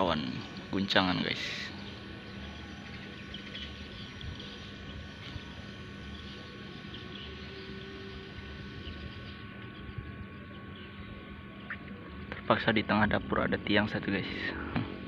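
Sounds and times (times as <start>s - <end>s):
faint constant hum: 0.0s - 15.0s
low outdoor rumble: 0.0s - 15.0s.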